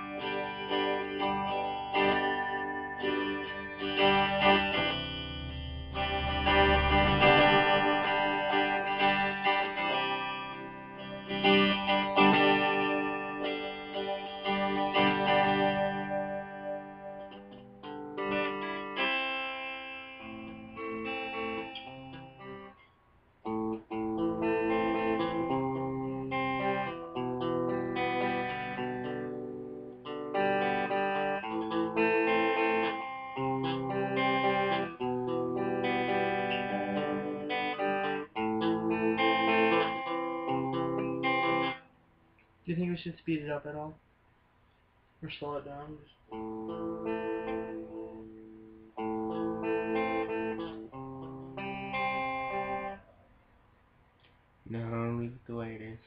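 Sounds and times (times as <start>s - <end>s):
electric guitar playing: 0.0s - 43.9s, 45.4s - 53.4s.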